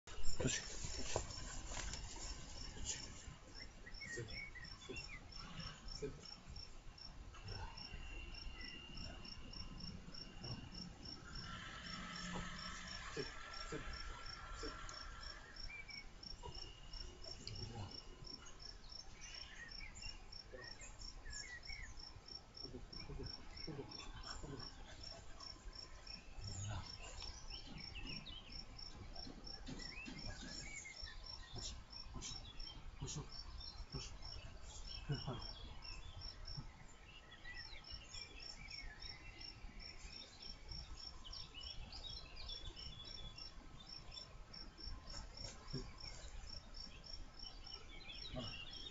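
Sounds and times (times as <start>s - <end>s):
birds chirping: 0.1s - 48.9s
cricket chirping: 0.1s - 48.9s.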